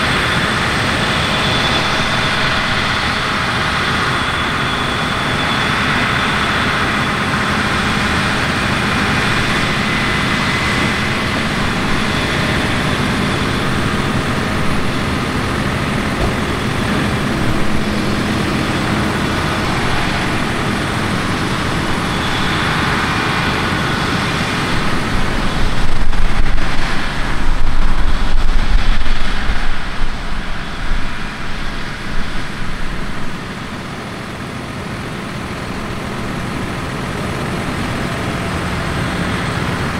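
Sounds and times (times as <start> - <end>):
heavy machinery engines running: 0.0 - 39.9
loud uneven low rumble: 0.0 - 39.9.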